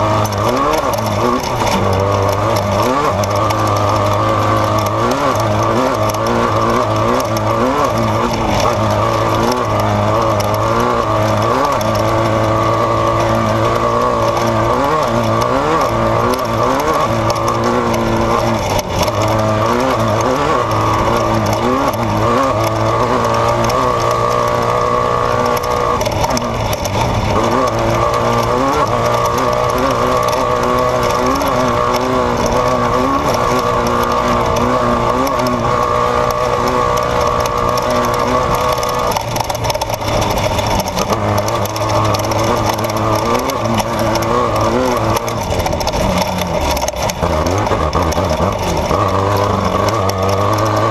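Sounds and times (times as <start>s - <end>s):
race vehicle engine revving: 0.0s - 50.9s.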